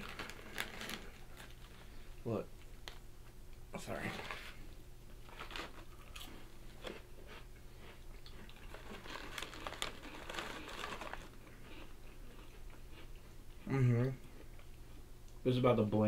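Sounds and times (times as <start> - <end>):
biscuits crunching while chewed: 0.0 - 3.0, 3.9 - 15.0.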